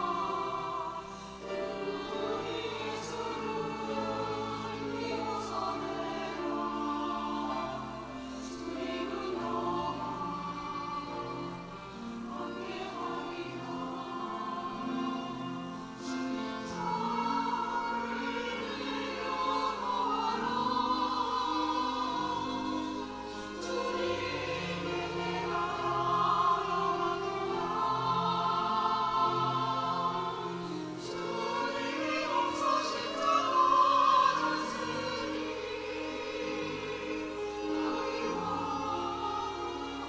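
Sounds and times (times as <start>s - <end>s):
choir singing: 0.0s - 40.0s
piano accompaniment: 0.0s - 40.0s.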